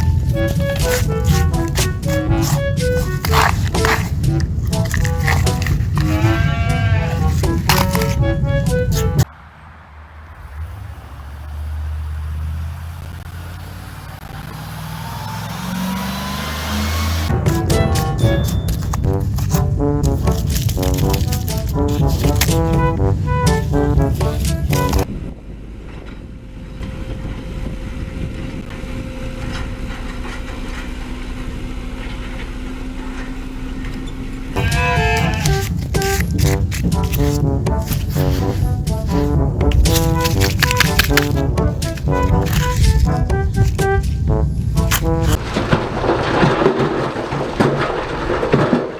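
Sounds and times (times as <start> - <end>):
low engine-like rumble: 0.0 - 46.4.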